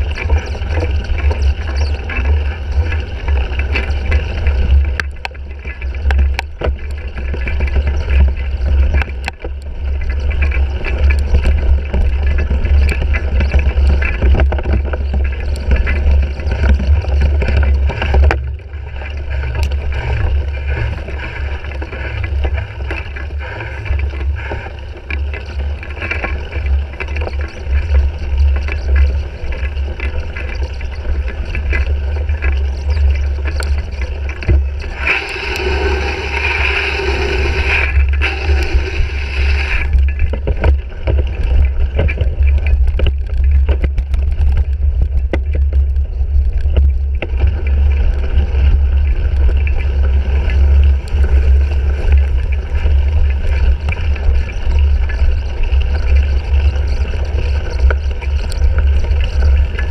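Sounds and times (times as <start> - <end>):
bike rattles and knocks: 0.0 - 36.7, 39.8 - 59.9
wind rumbling on microphone: 0.0 - 59.9.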